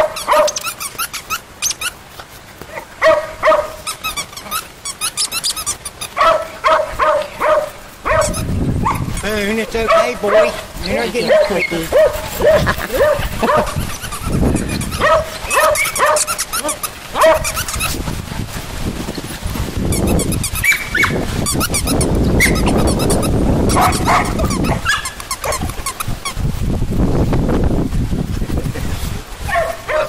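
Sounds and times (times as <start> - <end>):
puppies yipping: 0.0 - 26.4, 29.5 - 30.0
scuffling and rustling: 0.0 - 30.0.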